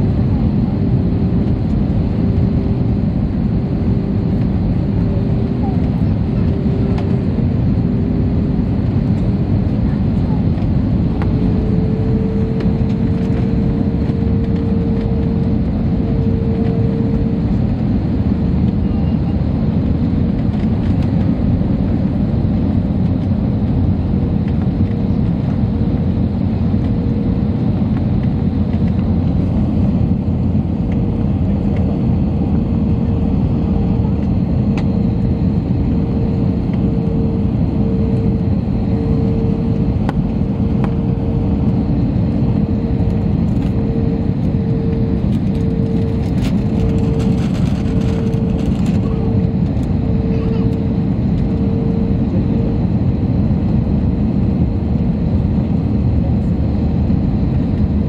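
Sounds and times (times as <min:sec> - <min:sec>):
airliner cabin engine noise: 0:00.0 - 0:58.0
constant hum: 0:00.0 - 0:58.0.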